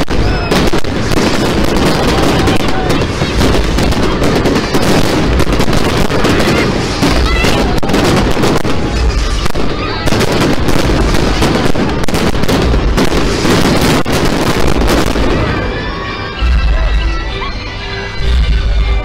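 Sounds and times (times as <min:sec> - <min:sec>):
fireworks bangs and crackling: 0:00.0 - 0:17.4.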